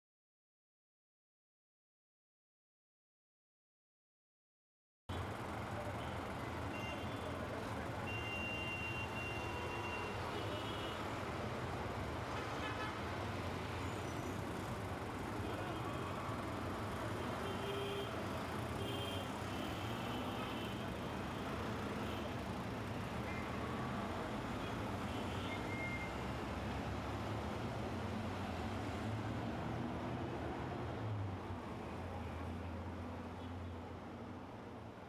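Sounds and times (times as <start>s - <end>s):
road traffic noise: 5.1s - 35.0s.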